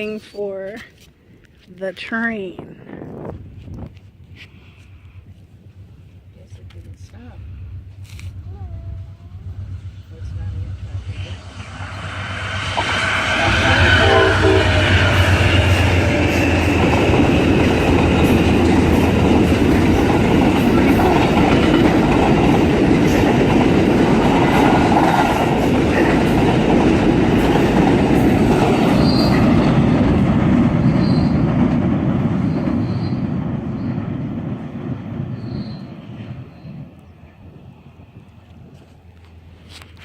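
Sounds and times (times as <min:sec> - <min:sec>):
train wheels on rails: 0:03.1 - 0:40.0.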